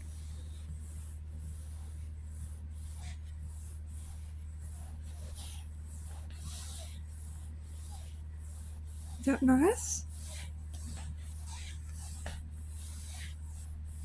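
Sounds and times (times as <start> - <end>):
brush strokes through cat fur: 0.0 - 14.0
steady low hum: 0.0 - 14.0.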